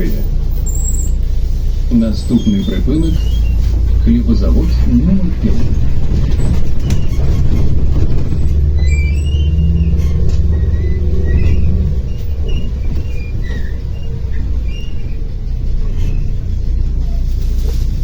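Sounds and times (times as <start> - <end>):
bus diesel engine rumble: 0.0 - 18.0
squeaks and rattles from bus body: 0.0 - 18.0.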